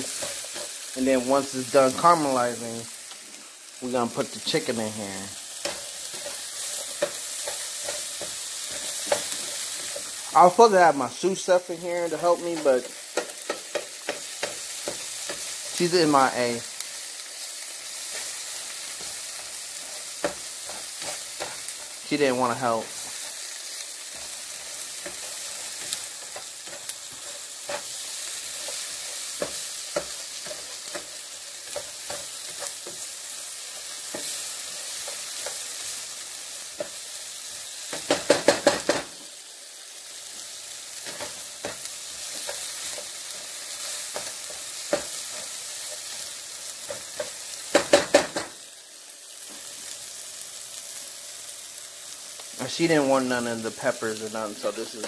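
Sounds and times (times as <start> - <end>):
vegetables sizzling in a frying pan: 0.0 - 55.0.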